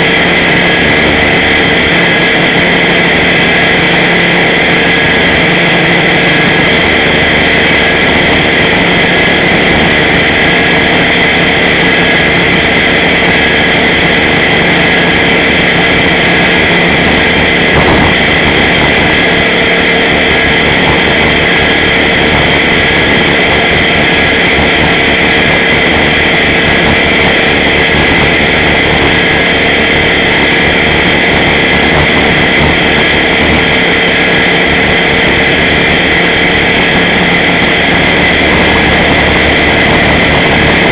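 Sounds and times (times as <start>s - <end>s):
rc helicopter high whine: 0.0s - 40.9s.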